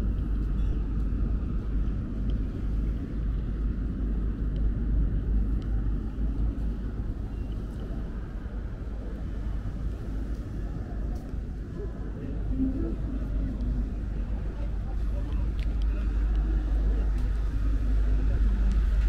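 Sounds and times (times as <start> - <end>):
low fluctuating rumble: 0.0 - 19.0.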